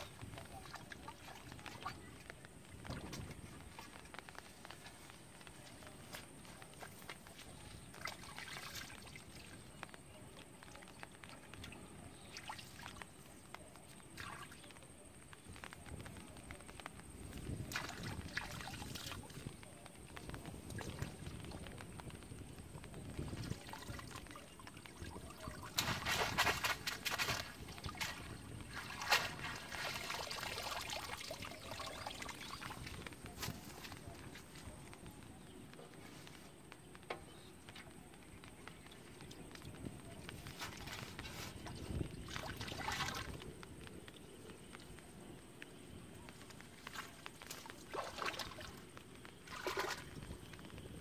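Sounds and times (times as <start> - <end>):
muddy water splashing: 0.0 - 35.2, 37.3 - 51.0.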